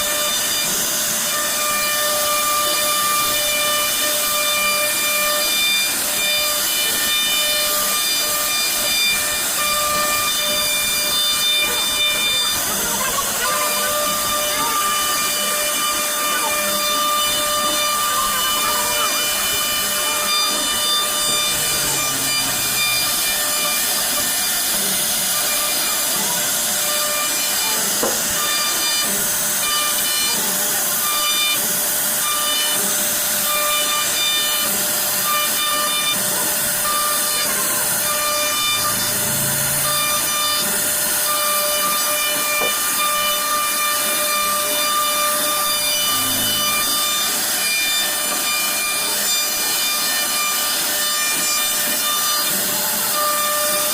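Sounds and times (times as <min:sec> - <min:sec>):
router spindle whining: 0:00.0 - 0:53.9
wood cutting hiss: 0:00.0 - 0:53.9.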